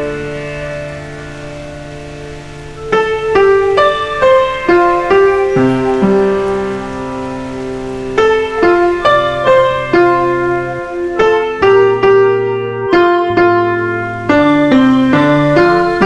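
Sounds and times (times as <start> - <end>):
calm piano melody: 0.0 - 16.0.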